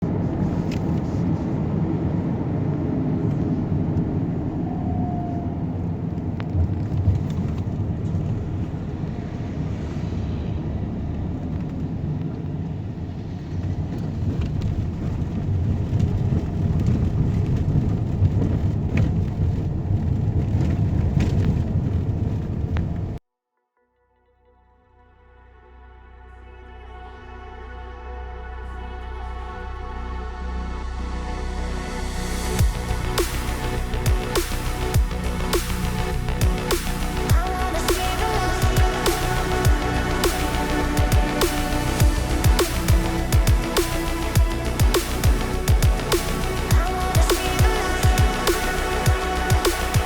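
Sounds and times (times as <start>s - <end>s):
low rumble of road vehicles: 0.0s - 23.2s, 25.8s - 50.0s.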